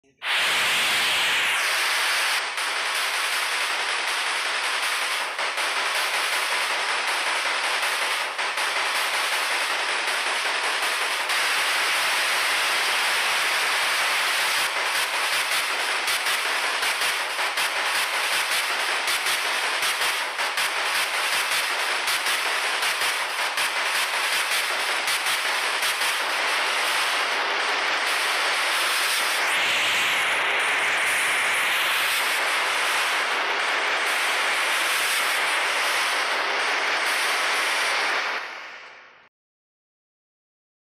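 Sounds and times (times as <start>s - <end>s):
loud static hiss: 0.0s - 39.3s.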